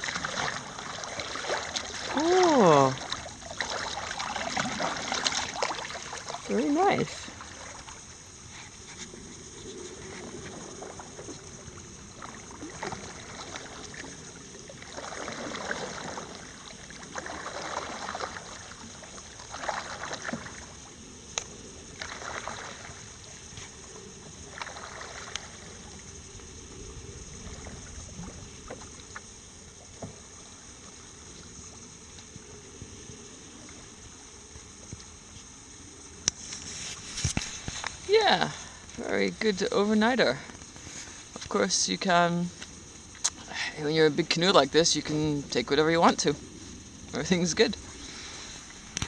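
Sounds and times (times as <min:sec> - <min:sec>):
water swishing against canoe: 0:00.0 - 0:49.0.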